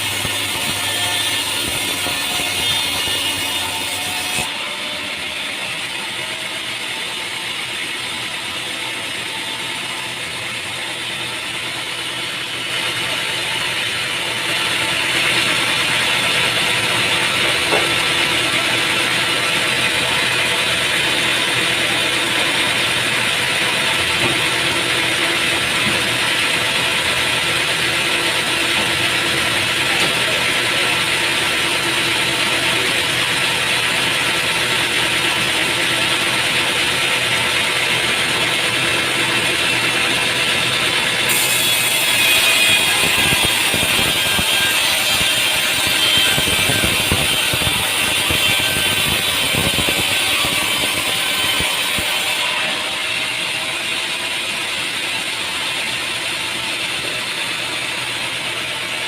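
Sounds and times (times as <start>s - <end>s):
sawmill machinery clatter and hiss: 0.0s - 59.0s.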